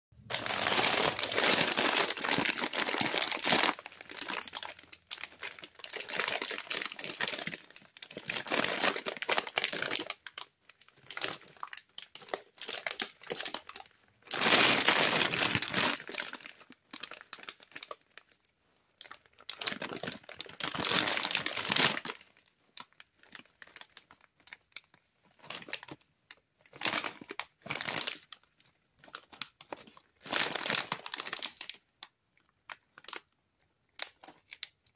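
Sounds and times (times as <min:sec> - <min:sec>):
snack bags crinkling: 0:00.2 - 0:18.4, 0:19.0 - 0:34.9.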